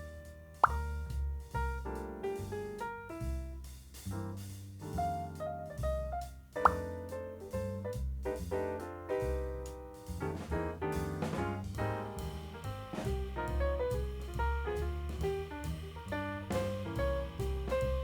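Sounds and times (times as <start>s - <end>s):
jazz music with piano bass drums: 0.0s - 18.0s.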